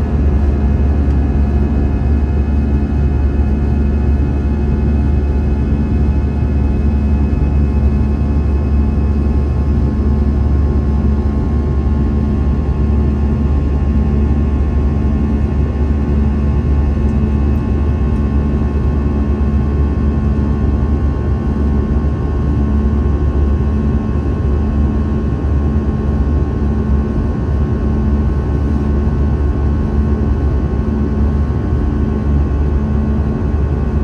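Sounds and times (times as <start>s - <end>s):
jet engine drone in cabin: 0.0s - 34.0s.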